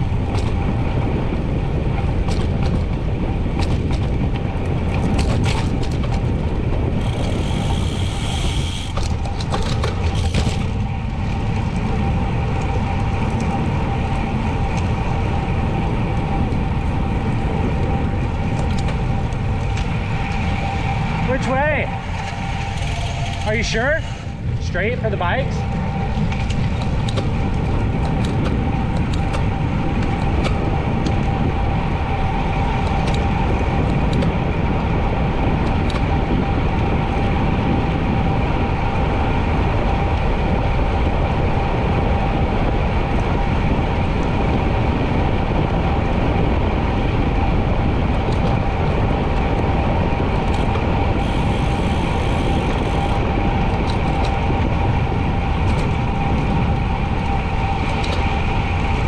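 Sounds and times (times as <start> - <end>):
steady whine: 0.0 - 59.0
tyres humming on pavement: 0.0 - 59.0
wind rushing over microphone: 0.0 - 59.0.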